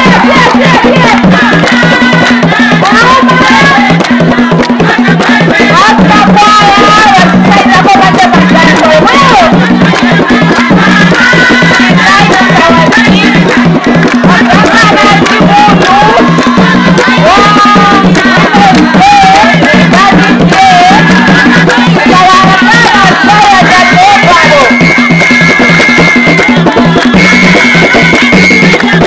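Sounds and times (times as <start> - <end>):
voices singing: 0.0 - 29.0
wooden hand drums: 0.0 - 29.0.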